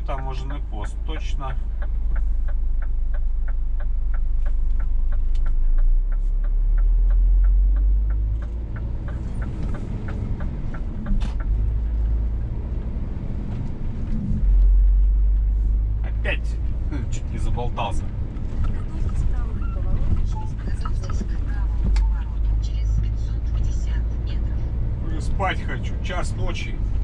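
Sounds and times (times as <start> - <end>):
turn-signal indicator ticking: 0.0 - 12.9, 17.2 - 27.0
truck engine and road rumble: 0.0 - 27.0.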